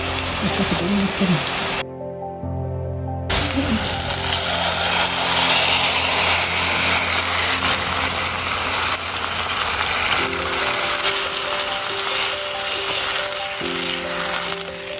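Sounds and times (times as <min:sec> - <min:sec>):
food sizzling in hot oil: 0:00.0 - 0:01.8, 0:03.3 - 0:14.9
background music: 0:00.0 - 0:14.9.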